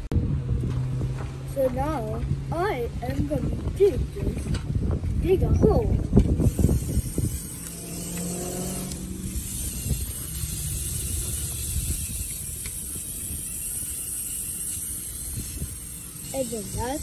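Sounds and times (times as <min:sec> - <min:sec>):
wheel grinding in dirt: 0:00.6 - 0:17.0
motor humming: 0:01.5 - 0:17.0.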